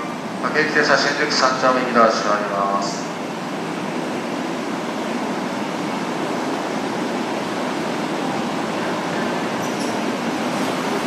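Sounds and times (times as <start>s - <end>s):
electric train equipment humming: 0.0s - 11.0s.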